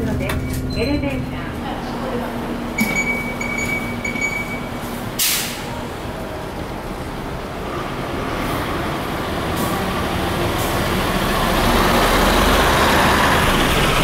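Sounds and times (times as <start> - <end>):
bus diesel engine driving past: 0.0 - 14.0.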